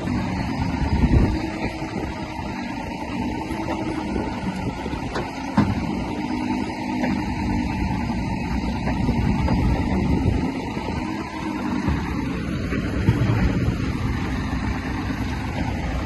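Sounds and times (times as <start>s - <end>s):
diesel machinery running: 0.0s - 16.0s.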